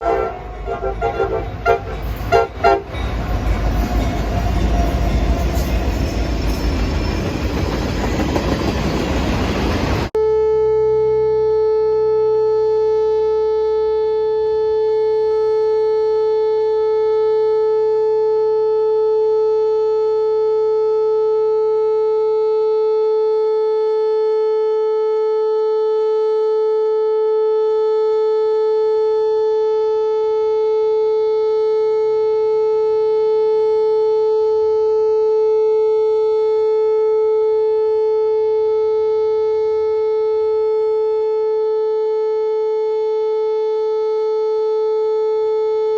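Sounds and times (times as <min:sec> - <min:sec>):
steady warning siren tone: 0:00.0 - 0:08.5, 0:10.0 - 0:45.9.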